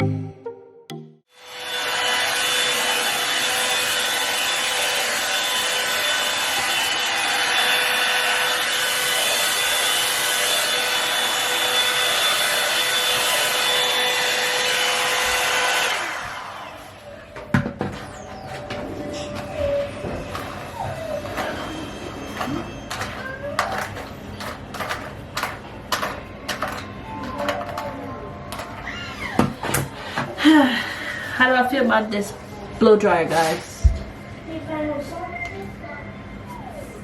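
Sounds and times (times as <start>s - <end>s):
hot-air brush fan and motor whine: 1.3s - 37.0s.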